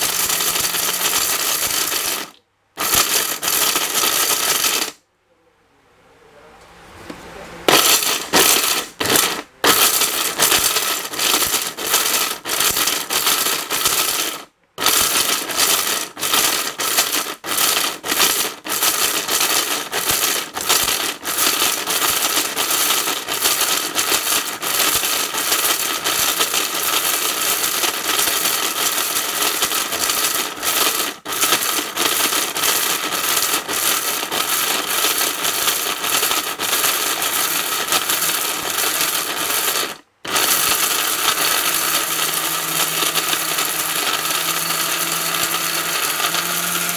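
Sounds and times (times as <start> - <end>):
blender grinding hard pieces: 0.0 - 5.0, 7.7 - 46.9.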